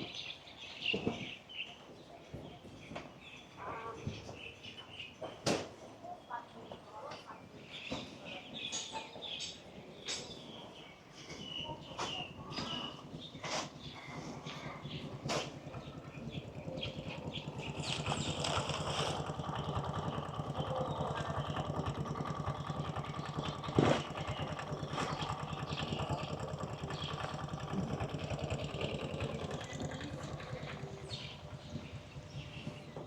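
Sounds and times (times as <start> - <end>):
motor engine running: 6.3 - 33.0.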